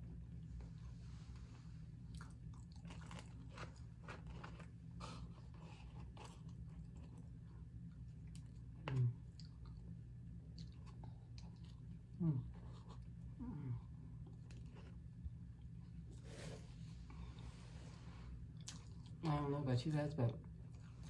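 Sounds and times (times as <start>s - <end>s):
steady low hum: 0.0s - 21.0s
chewing and crunching food: 0.3s - 16.2s, 18.3s - 19.4s, 20.3s - 21.0s.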